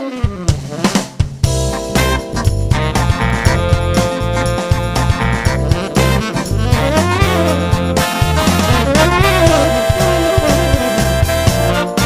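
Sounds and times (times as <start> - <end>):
brass horns playing jazz melody: 0.6 - 12.0
steady bass line: 0.9 - 12.0.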